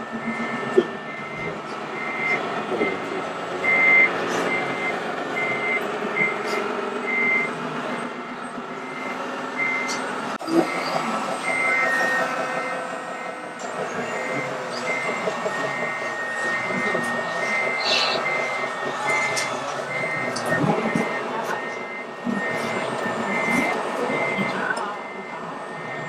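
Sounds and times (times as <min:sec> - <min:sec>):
model truck engine hum: 0:00.0 - 0:26.0
model truck reversing beeper: 0:00.0 - 0:26.0.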